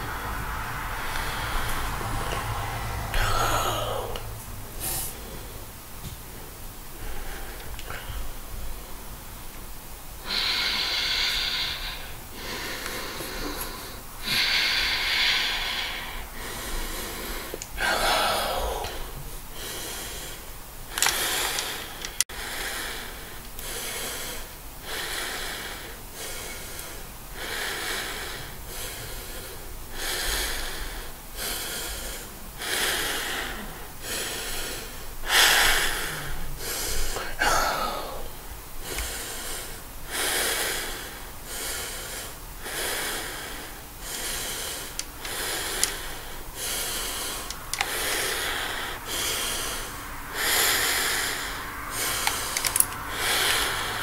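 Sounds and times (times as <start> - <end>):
person breathing heavily behind mask: 0.0 - 5.7, 6.9 - 9.0, 10.2 - 54.0.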